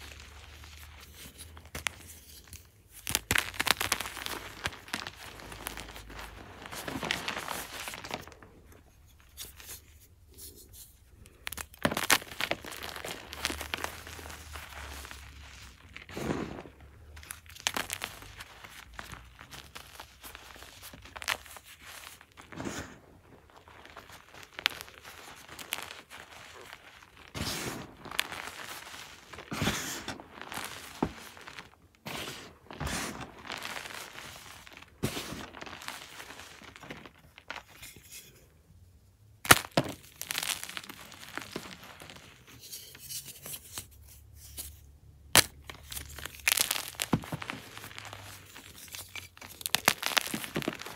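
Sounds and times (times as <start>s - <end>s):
chalk crunching and crumbling: 0.0s - 38.5s, 39.5s - 50.9s.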